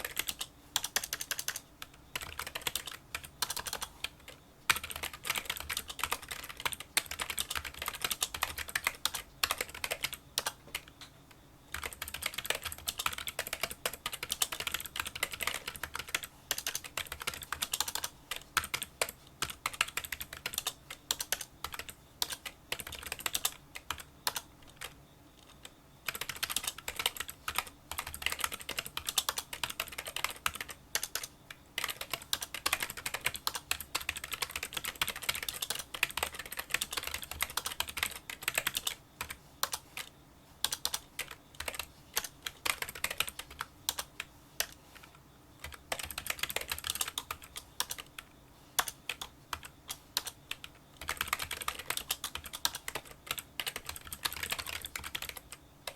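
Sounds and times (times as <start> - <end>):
fast typing on keyboard: 0.0 - 11.1, 11.7 - 55.9.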